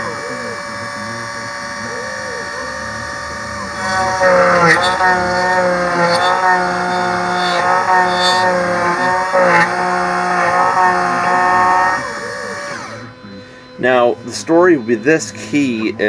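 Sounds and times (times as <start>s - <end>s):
key cutting machine motor whine: 0.0s - 16.0s.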